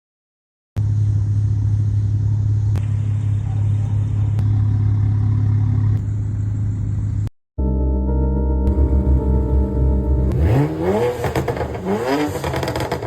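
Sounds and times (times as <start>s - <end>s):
car engine droning: 0.8s - 13.0s.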